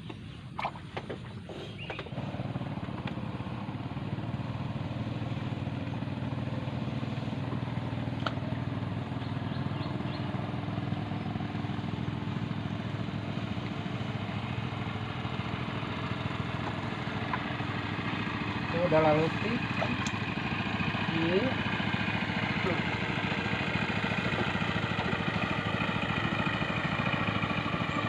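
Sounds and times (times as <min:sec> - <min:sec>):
small boat engine running: 0:00.0 - 0:28.0.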